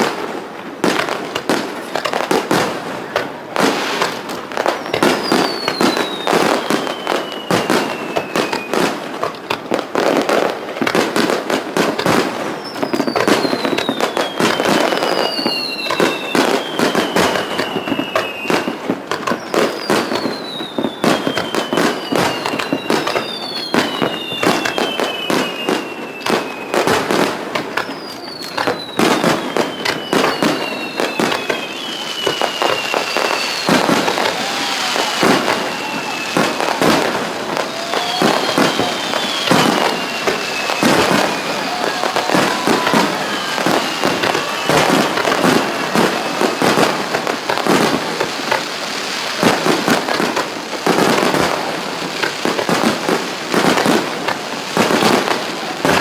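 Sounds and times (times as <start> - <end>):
fireworks bangs and crackling: 0.0 - 56.0
falling firework whistles: 0.8 - 56.0.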